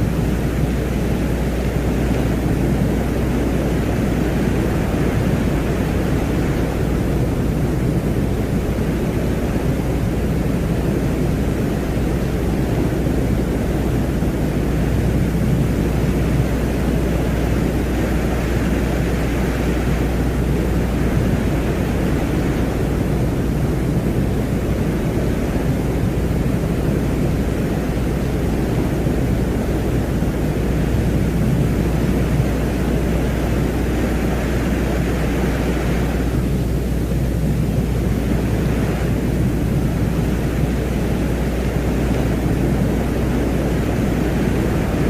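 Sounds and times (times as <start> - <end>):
dense low space ambience: 0.0 - 45.0.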